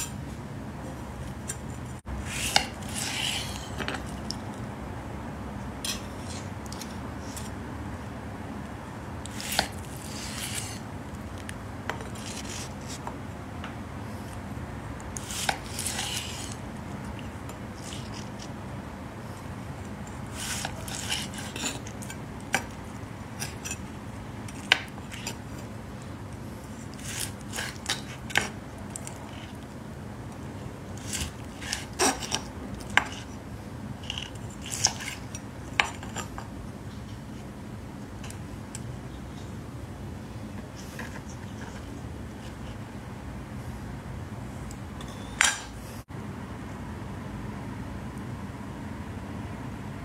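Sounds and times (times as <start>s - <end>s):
low background noise: 0.0s - 50.0s.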